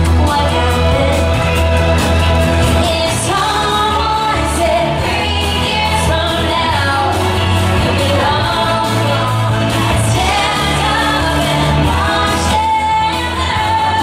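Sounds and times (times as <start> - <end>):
pop song singing: 0.0 - 14.0
steady bass line: 0.0 - 14.0.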